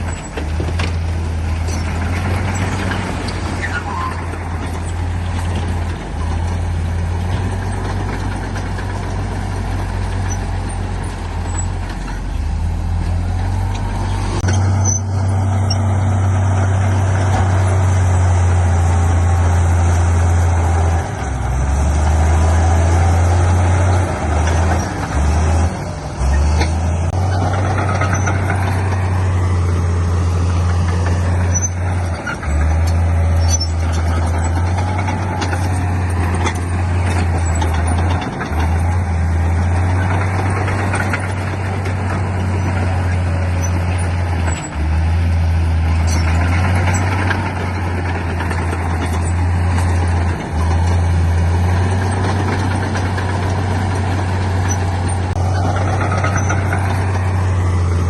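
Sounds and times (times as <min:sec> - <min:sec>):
heavy machinery diesel engines rumbling: 0:00.0 - 0:58.0.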